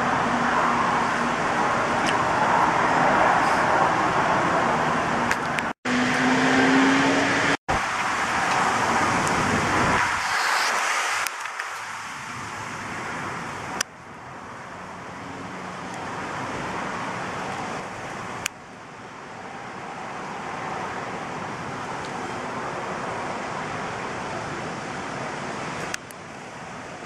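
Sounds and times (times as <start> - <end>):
wind and rain rushing: 0.0 - 27.0.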